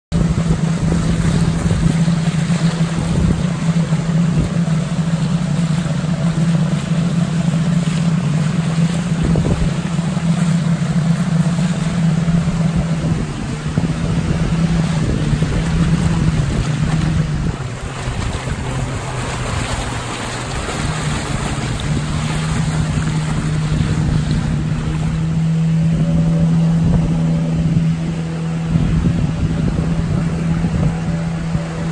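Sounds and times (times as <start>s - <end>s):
wind on microphone: 0.1s - 6.4s, 8.6s - 31.9s
outboard motor running: 0.1s - 31.9s
water rushing past hull: 0.1s - 31.9s.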